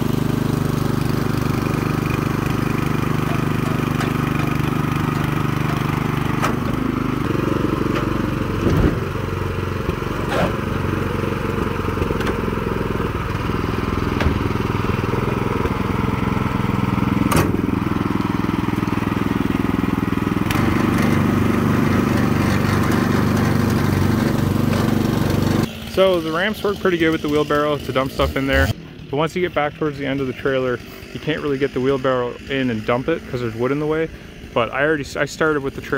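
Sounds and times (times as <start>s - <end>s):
small gas engine running: 0.0s - 35.9s.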